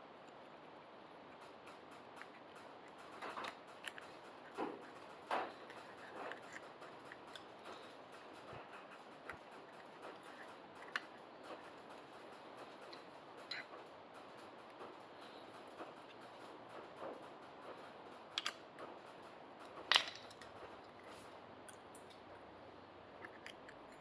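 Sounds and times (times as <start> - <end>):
hand tools clicking and knocking: 1.4 - 22.2.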